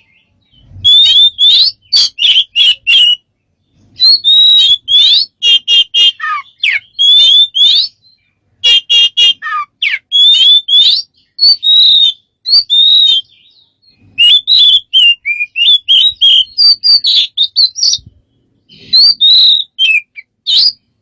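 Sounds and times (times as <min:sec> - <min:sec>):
bird whistled chirps and trills: 0:00.0 - 0:21.0.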